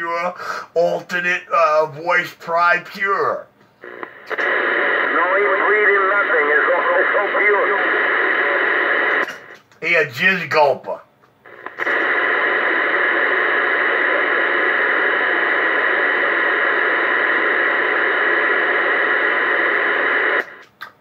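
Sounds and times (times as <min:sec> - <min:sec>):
radio static hiss: 0:00.0 - 0:20.9.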